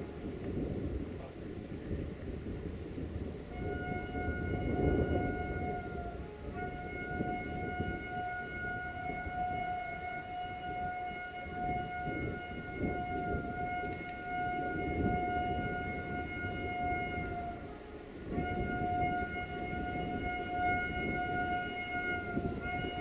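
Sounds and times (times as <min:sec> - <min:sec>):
locomotive horn blast: 0:03.2 - 0:23.0.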